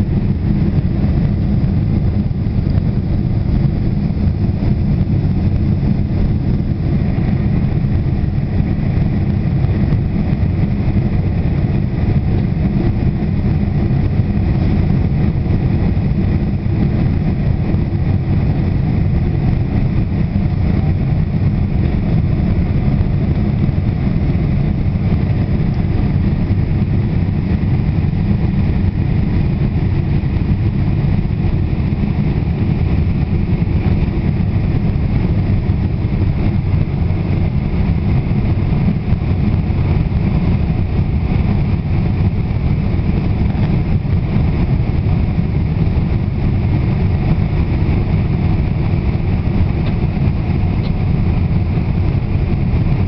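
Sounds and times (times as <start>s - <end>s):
jet engine cabin rumble: 0.0s - 53.0s.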